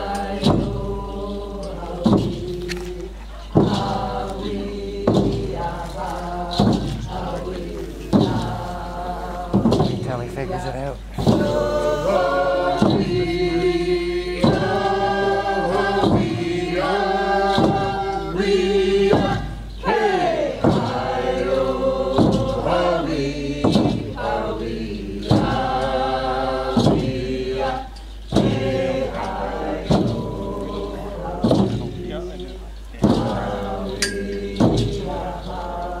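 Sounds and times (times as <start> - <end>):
drum strokes: 0.0 - 36.0
group of voices chanting: 0.0 - 36.0.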